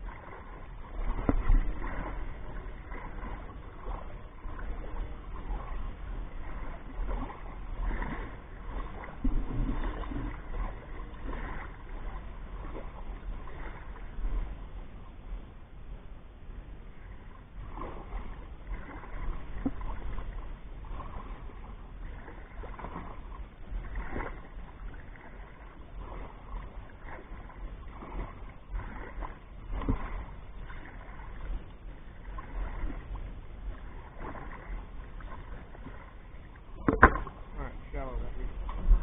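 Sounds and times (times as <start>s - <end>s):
water sloshing and swishing: 0.0s - 39.0s
wind rumble on microphone: 0.0s - 39.0s.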